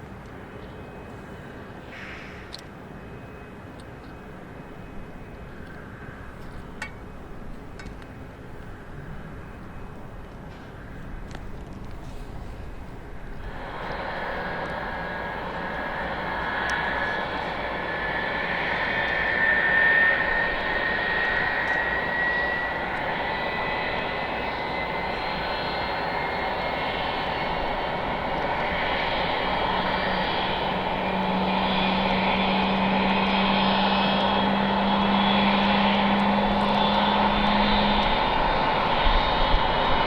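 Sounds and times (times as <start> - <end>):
jet engines whining: 0.4 - 40.0
low hum: 0.4 - 40.0.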